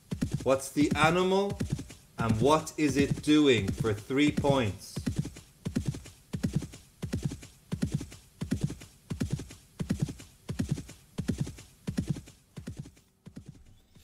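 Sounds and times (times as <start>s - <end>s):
horse hoofbeats galloping: 0.0s - 14.0s.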